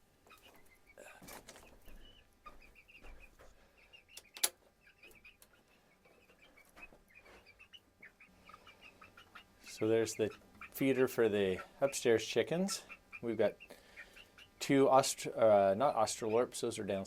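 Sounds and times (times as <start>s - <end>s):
chickens clucking softly: 0.0s - 17.0s.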